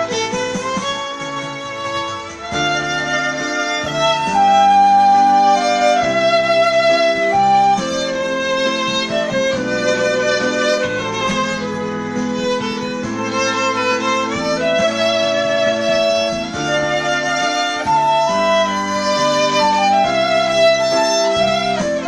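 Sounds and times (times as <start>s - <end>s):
bowed violin-like melody: 0.0s - 22.0s
sustained chord accompaniment: 0.0s - 22.0s.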